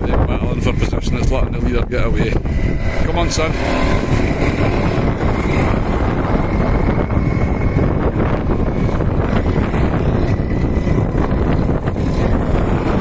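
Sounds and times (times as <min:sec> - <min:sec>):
wind buffeting microphone: 0:00.0 - 0:13.0
distant kart engines: 0:02.4 - 0:13.0.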